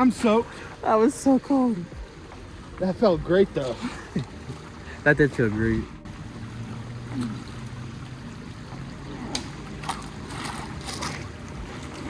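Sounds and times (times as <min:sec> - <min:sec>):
river water splashing around wader: 0:00.0 - 0:12.0.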